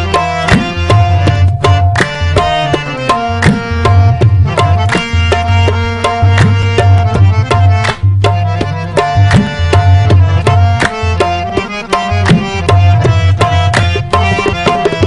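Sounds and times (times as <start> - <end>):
low booming pitch-bending drum: 0.0 - 15.0.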